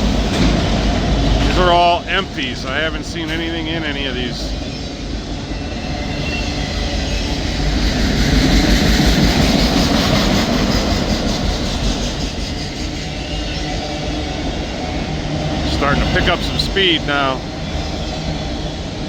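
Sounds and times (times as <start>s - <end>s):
freight train rumbling past: 0.0s - 19.0s
steel wheels rumbling on rail: 0.0s - 19.0s.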